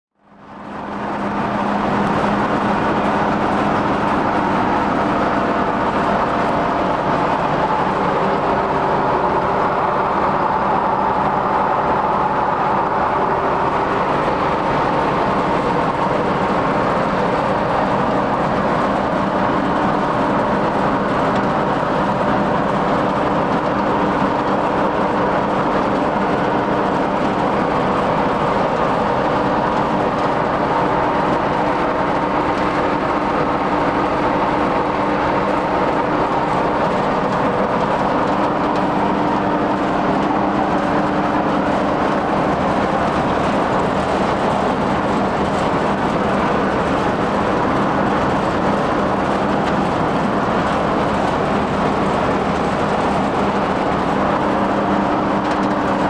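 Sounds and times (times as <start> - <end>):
grinder mixer mechanical drone: 0.3 - 56.0.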